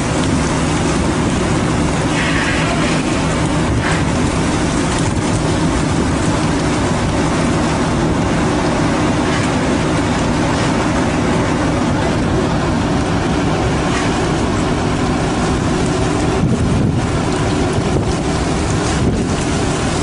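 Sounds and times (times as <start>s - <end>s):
boat engine drone: 0.0s - 20.0s
wind and water hiss: 0.0s - 20.0s.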